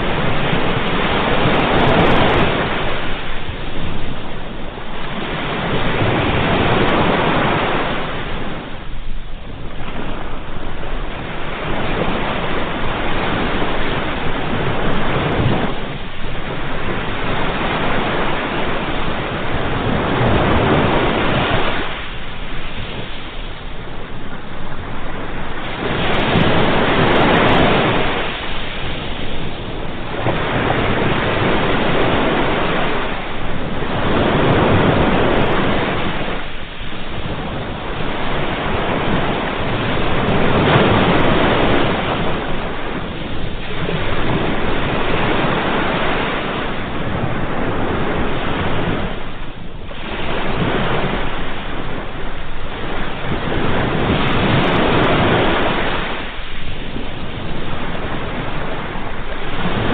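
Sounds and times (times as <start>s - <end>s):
ocean waves breaking on shore: 0.0s - 59.9s
wind noise on microphone: 0.0s - 59.9s.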